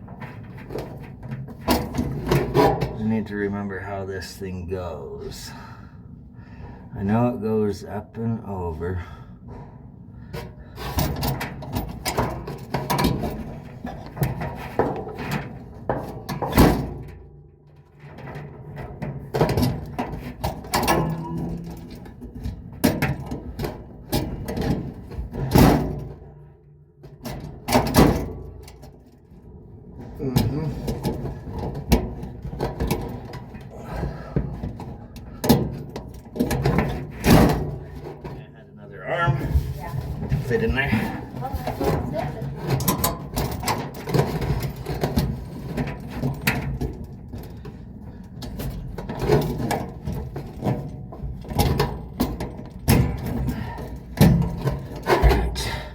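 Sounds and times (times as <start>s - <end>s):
clicks and knocks of dryer parts: 0.0s - 3.2s, 10.2s - 38.5s, 39.3s - 55.9s.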